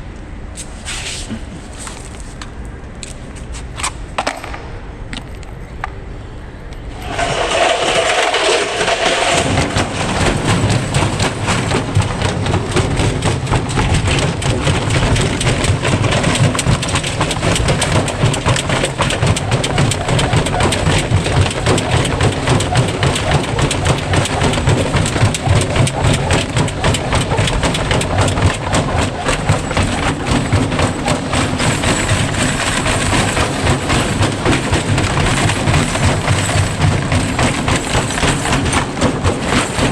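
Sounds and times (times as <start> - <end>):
washing machine drum knocking: 7.0 - 39.9.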